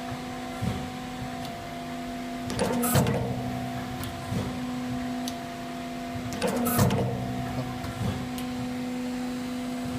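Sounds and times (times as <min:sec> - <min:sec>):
press machine humming: 0:00.0 - 0:09.9.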